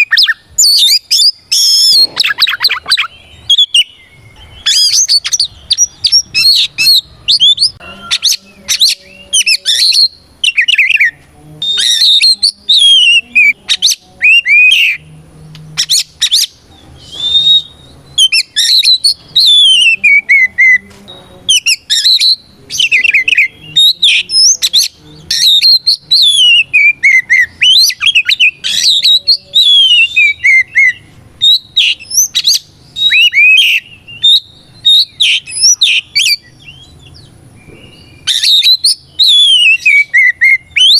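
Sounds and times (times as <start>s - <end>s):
bird singing whistled song: 0.0s - 15.1s, 15.8s - 40.9s.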